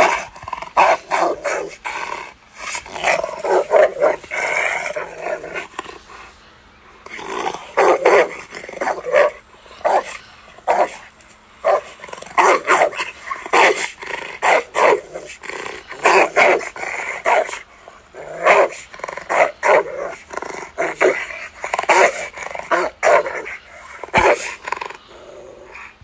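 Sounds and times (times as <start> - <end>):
dog barking: 0.0 - 1.9, 2.6 - 5.7, 7.4 - 24.6
dog snarling growl: 0.0 - 26.0.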